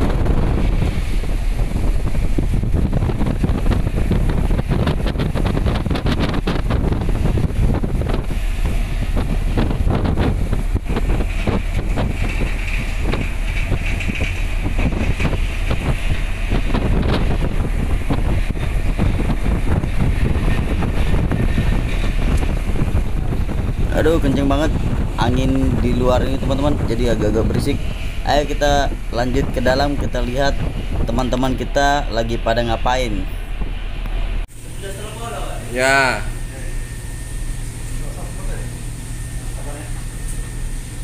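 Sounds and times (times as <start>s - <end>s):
strong wind buffeting microphone: 0.0s - 41.0s.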